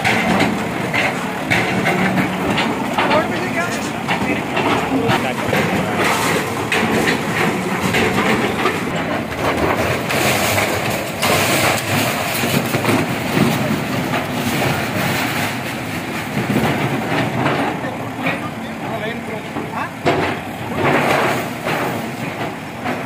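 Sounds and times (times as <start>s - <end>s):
rubble clattering and crashing: 0.0s - 18.9s
diesel engine running: 0.0s - 23.0s.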